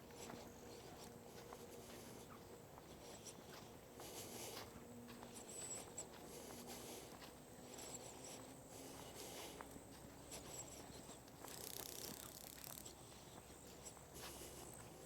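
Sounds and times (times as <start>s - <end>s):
footsteps on dirt trail: 0.0s - 15.0s.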